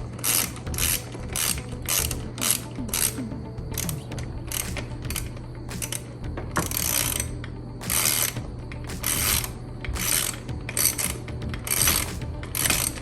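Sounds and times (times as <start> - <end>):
ratchet wrench clicking: 0.0 - 13.0
steady low hum: 0.0 - 13.0.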